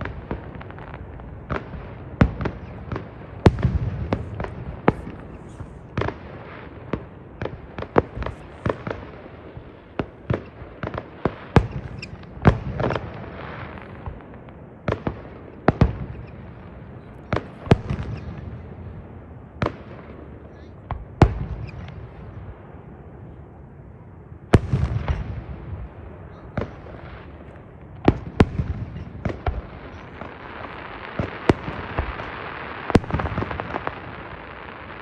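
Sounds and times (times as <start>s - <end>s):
fireworks bangs and pops: 0.0s - 19.0s, 19.6s - 22.4s, 24.5s - 35.0s.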